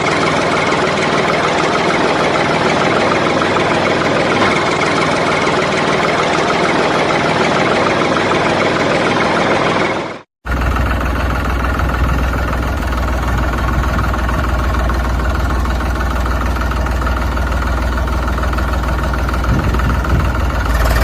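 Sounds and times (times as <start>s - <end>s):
diesel tractor engine idling: 0.0s - 21.0s.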